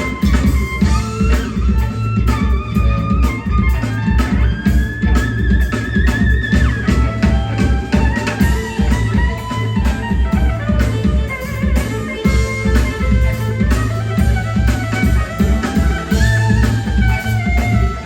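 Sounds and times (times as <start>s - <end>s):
electric guitar: 0.0s - 18.0s
rock band playing live: 0.0s - 18.0s.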